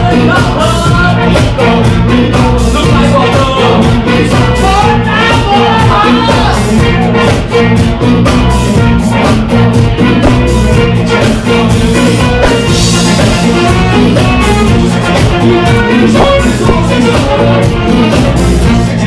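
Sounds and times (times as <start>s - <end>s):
drum beat: 0.0s - 19.0s
guitar: 0.0s - 19.0s
person singing: 0.0s - 19.0s.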